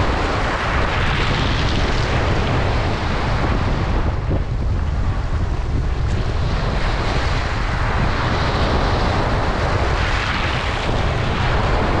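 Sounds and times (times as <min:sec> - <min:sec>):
waves washing over pebbles: 0:00.0 - 0:12.0
wind rumble on microphone: 0:00.0 - 0:12.0.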